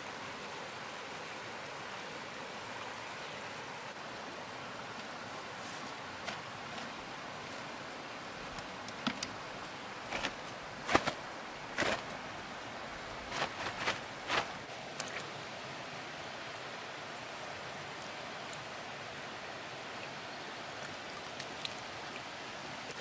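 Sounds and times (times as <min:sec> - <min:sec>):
stream water rushing: 0:00.0 - 0:23.0.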